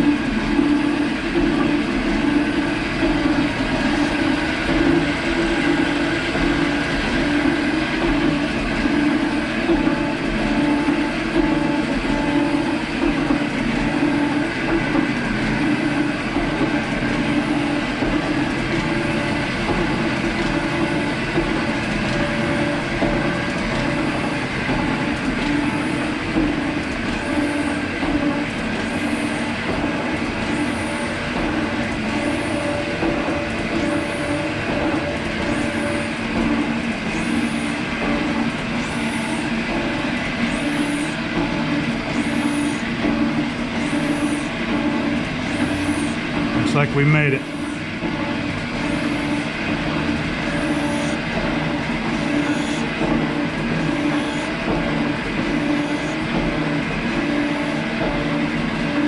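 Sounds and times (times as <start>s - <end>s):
metal shaper gear and motor hum: 0.0s - 47.7s.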